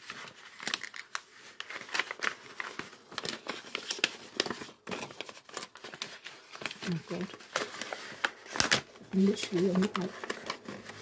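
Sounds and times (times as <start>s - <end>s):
paper envelope rustling: 0.0s - 11.0s.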